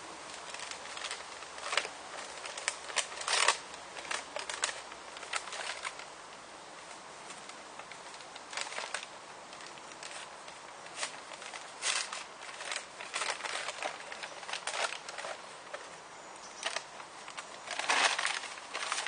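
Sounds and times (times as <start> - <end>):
cardboard parcel being opened: 0.0 - 6.1, 6.8 - 16.0, 16.6 - 19.0.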